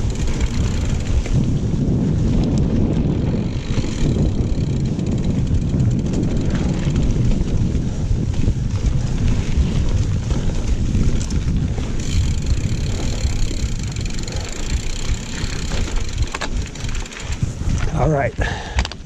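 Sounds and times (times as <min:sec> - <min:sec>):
tyres rolling over dirt trail: 0:00.0 - 0:19.0
wind buffeting microphone: 0:00.0 - 0:19.0.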